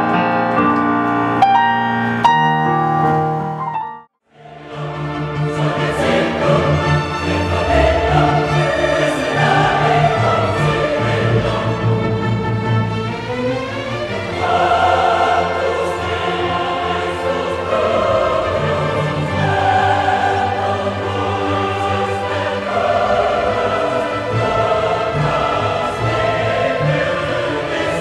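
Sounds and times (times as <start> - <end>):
choir singing classical music: 0.0 - 28.0.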